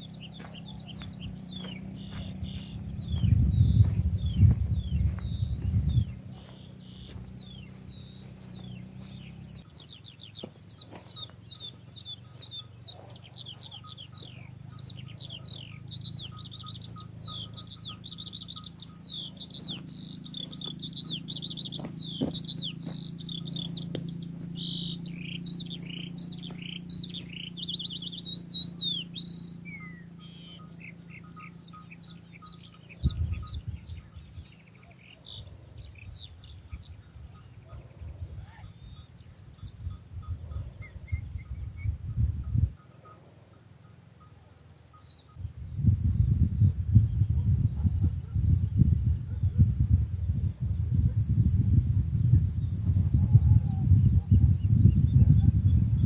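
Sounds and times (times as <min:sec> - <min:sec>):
low steady rumble: 0:00.0 - 0:56.0
songbirds chirping: 0:00.0 - 0:56.0.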